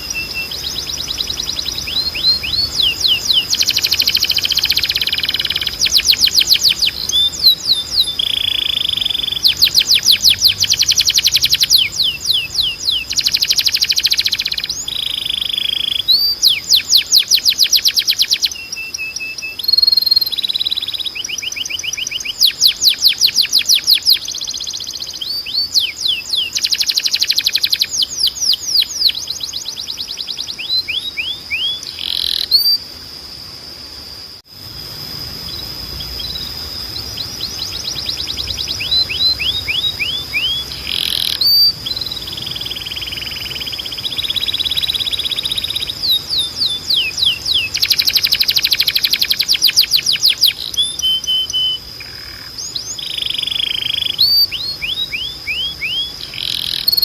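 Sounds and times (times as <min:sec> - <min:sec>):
canary singing trills: 0:00.0 - 0:33.0, 0:34.0 - 0:57.0
thin steady high tone: 0:00.0 - 0:57.0.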